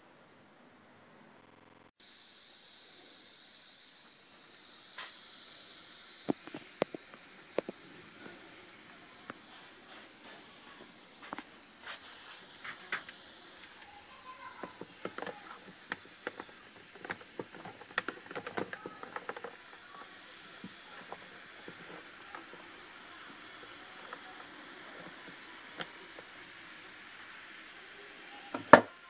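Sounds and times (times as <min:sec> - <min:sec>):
liquid fizzing with steady hiss: 0:02.0 - 0:29.0.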